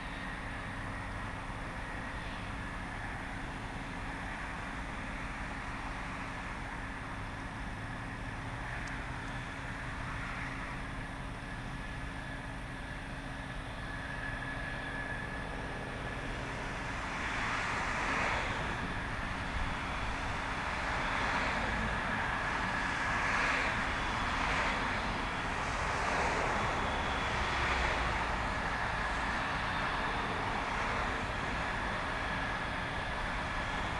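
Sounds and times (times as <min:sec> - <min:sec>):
jet engine whine and hiss: 0:00.0 - 0:33.9.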